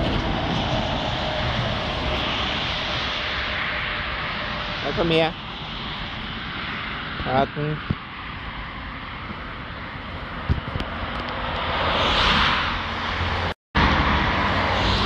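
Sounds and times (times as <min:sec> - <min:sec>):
cars passing close by: 0:00.0 - 0:15.0.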